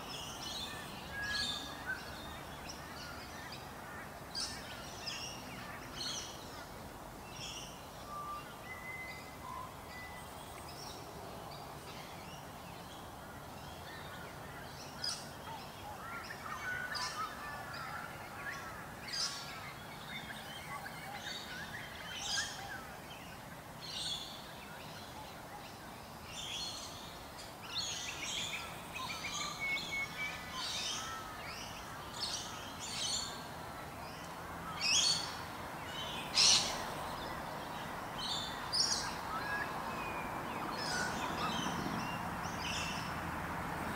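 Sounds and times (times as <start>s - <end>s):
small birds chirping: 0.0s - 43.2s
outdoor background noise: 0.0s - 43.9s.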